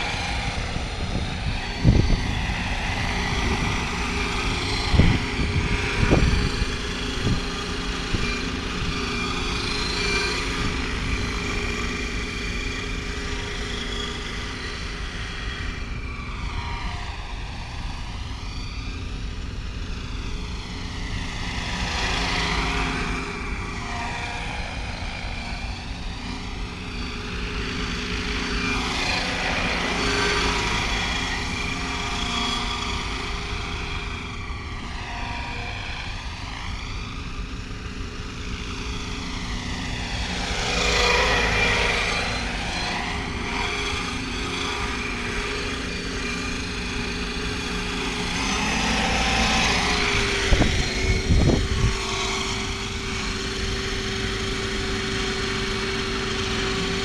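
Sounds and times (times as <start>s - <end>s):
model helicopter rotor whoosh: 0.0s - 57.0s
turbine-style whine: 0.0s - 57.0s.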